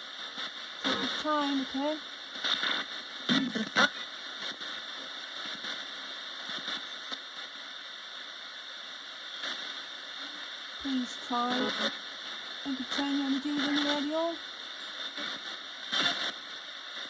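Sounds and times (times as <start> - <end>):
crackly static bursts: 0.0 - 17.0
radio static hiss: 0.0 - 17.0.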